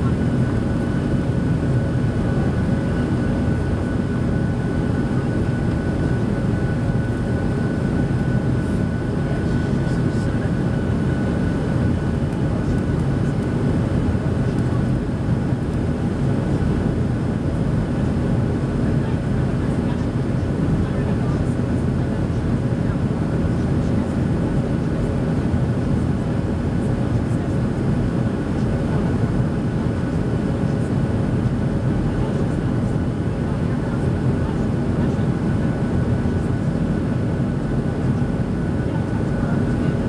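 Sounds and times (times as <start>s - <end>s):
jet engines droning: 0.0s - 40.0s.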